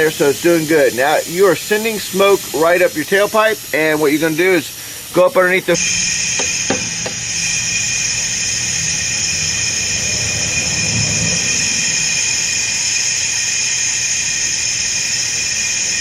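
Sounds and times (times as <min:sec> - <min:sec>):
compressed air hissing: 0:00.0 - 0:16.0.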